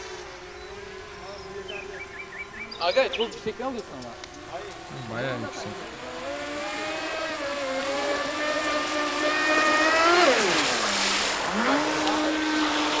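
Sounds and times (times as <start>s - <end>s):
electric boat motor whining: 0.0s - 13.0s.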